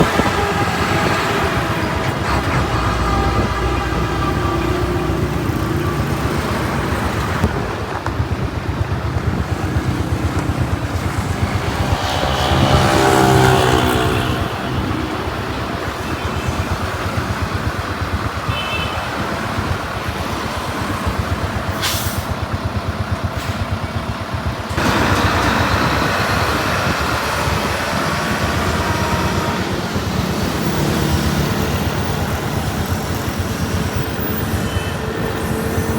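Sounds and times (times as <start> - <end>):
truck engine running: 0.0 - 35.9.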